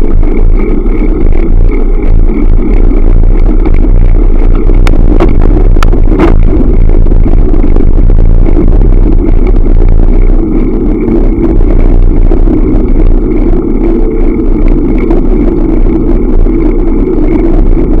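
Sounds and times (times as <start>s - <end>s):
road rumble: 0.0s - 18.0s
wind buffeting microphone: 0.0s - 18.0s.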